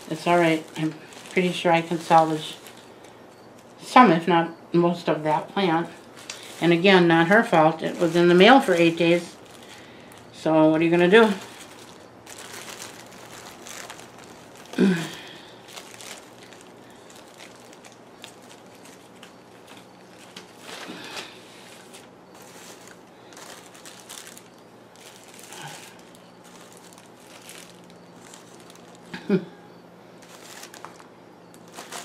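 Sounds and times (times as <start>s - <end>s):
plastic bags crinkling: 0.0s - 4.0s, 5.3s - 29.4s, 30.1s - 32.0s.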